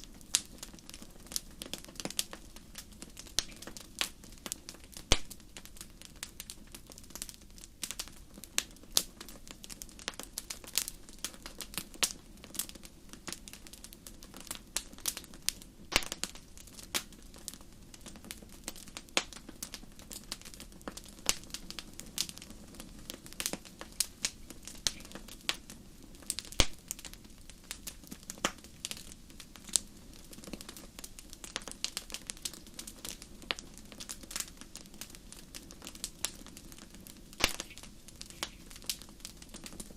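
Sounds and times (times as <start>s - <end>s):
flames hissing and rumbling: 0.0s - 39.9s
wood fire crackling and popping: 0.0s - 39.9s.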